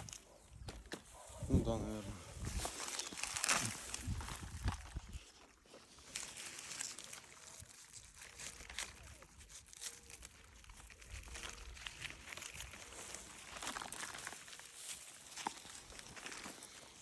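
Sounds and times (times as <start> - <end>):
plant leaves rustling and crinkling: 0.0 - 17.0
light crunches of vegetables: 2.4 - 17.0.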